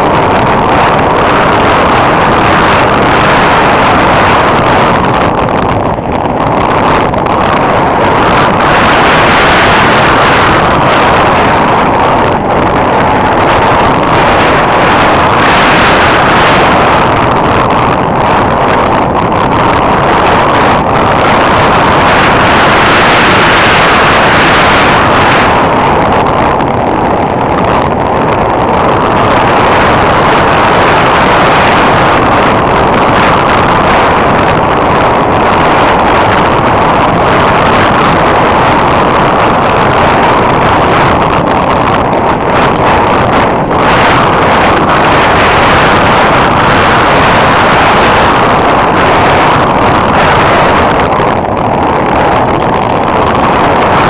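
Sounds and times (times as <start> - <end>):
aircraft propeller noise: 0.0 - 54.0
airflow rushing: 0.0 - 54.0.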